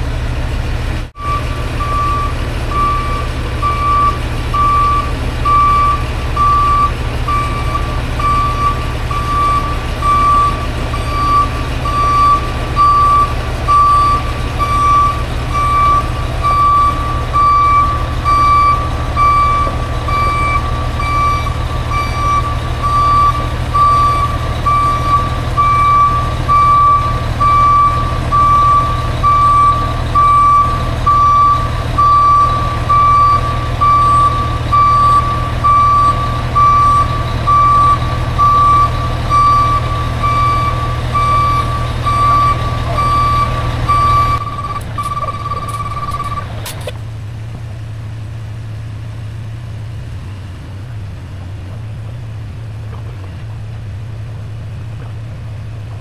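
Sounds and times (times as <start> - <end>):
diesel engine rumble: 0.0 - 56.0
backup alarm beeping: 1.2 - 47.0.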